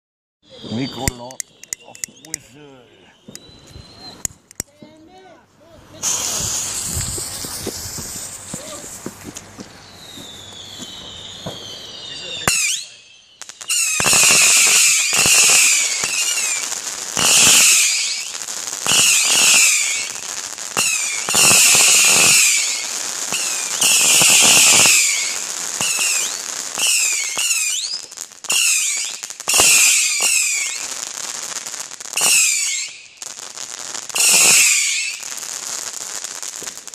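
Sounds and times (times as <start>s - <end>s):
whistling firework volleys: 0.4s - 4.7s, 5.9s - 36.9s
firework cracks and crackling: 5.9s - 36.9s.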